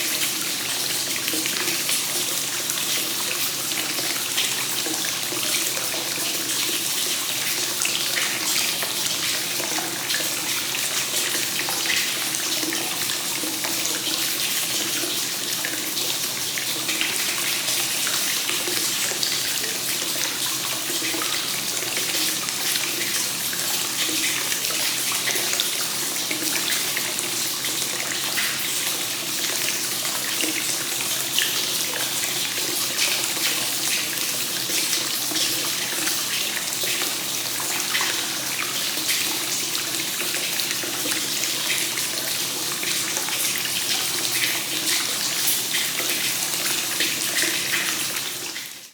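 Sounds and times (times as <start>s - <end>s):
water pouring into a bath: 0.0s - 48.9s.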